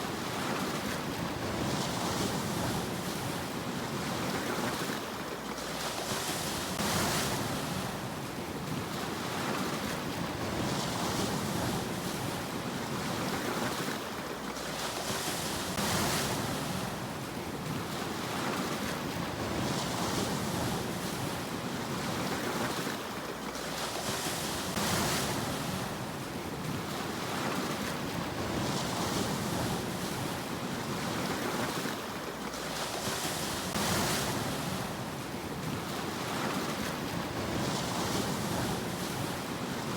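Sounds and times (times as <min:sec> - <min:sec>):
sea waves washing up shore: 0:00.0 - 0:39.9.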